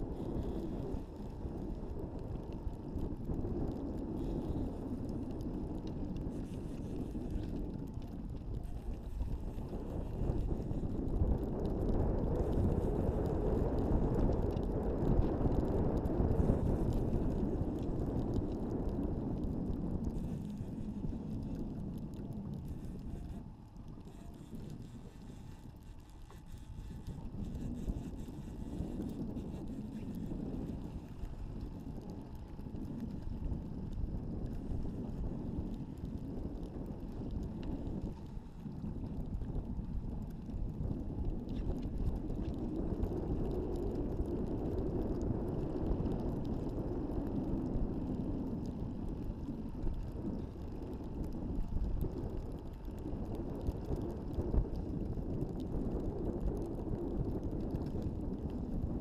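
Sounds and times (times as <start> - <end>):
boat on water: 0.0 - 59.0
wind buffeting microphone: 0.0 - 59.0.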